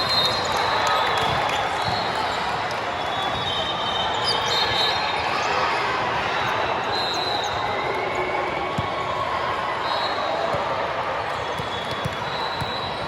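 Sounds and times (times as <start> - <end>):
crowd chatter murmur: 0.0 - 13.0.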